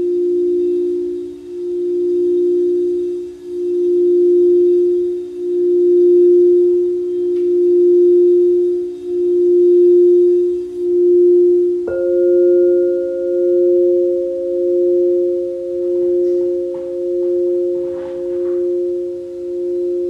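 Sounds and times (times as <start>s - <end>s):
crystal singing bowl tone: 0.0s - 20.0s.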